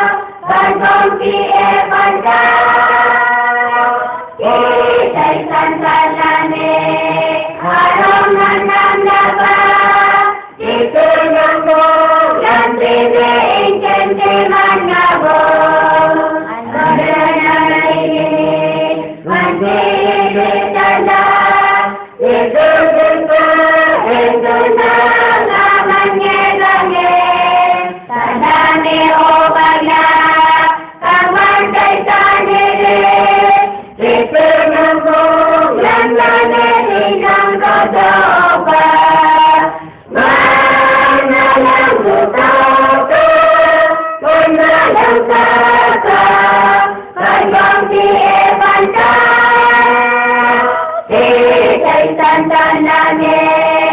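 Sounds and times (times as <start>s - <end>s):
large choir singing: 0.0s - 53.9s.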